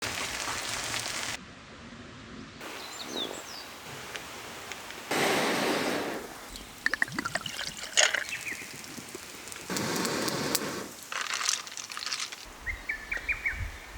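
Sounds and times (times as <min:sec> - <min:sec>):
bird calls: 0:02.6 - 0:13.9
steady hiss: 0:02.6 - 0:13.9.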